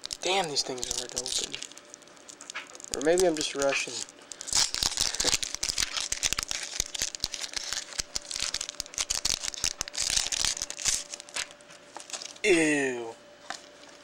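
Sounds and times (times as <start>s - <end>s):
foil wrapper crinkling and tearing: 0.0s - 12.4s.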